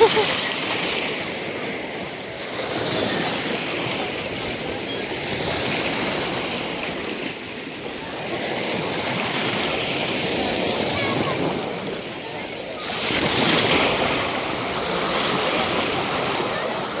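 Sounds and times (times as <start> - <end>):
waves washing on sand: 0.0 - 17.0.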